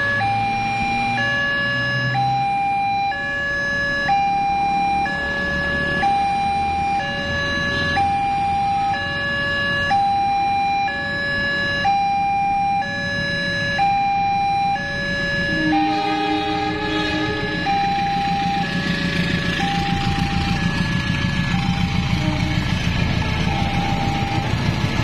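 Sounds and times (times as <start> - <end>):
two-tone crossing alarm: 0.0 - 25.0.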